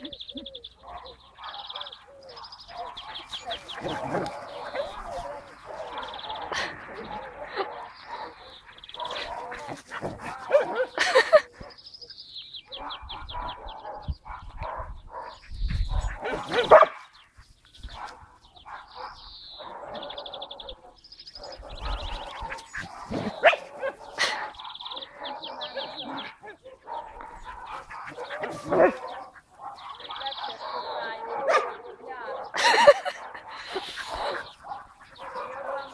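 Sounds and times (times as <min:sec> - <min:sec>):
dogs barking and yipping: 0:00.0 - 0:35.9.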